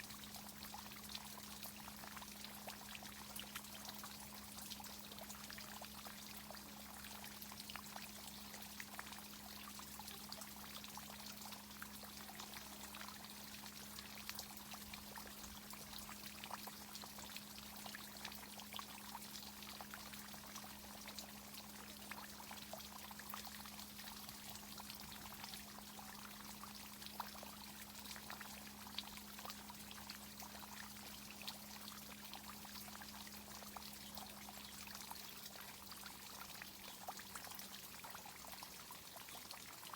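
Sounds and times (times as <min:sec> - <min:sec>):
water pouring and trickling: 0:00.0 - 0:39.9.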